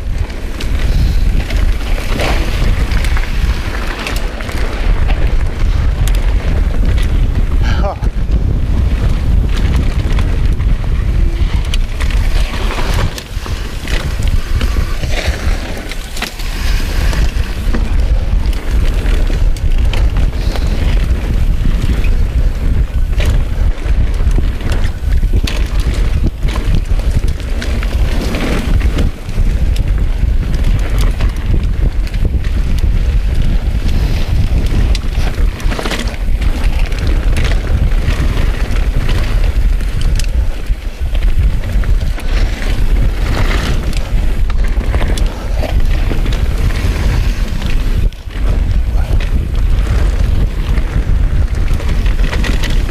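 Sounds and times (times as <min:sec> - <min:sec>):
bike knocks and rattles: 0:00.0 - 0:52.9
tyres rolling on dirt trail: 0:00.0 - 0:52.9
wind buffeting microphone: 0:00.0 - 0:52.9.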